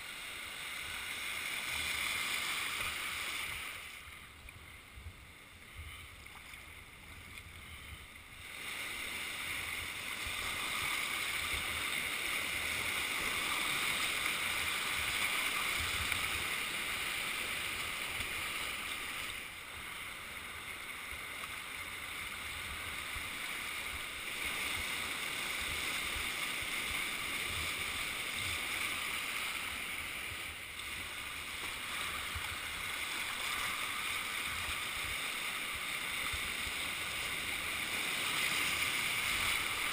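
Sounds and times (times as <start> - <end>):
river rapid rushing water: 0.0 - 4.4, 6.2 - 39.9.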